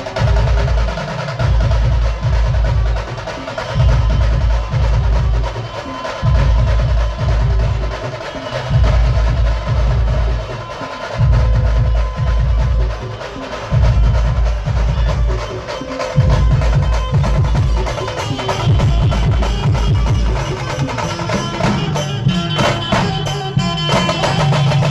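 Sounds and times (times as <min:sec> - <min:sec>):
banjo band playing dance music: 0:00.0 - 0:24.9
booming drum beats: 0:00.0 - 0:24.9.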